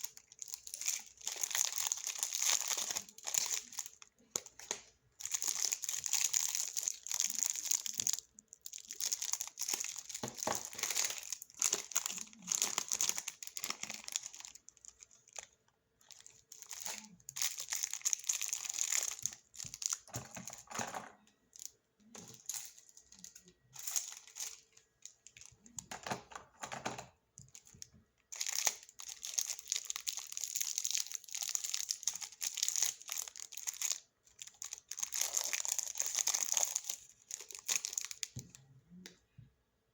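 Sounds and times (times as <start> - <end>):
plastic packaging crinkling: 0.0 - 25.8, 27.5 - 38.5.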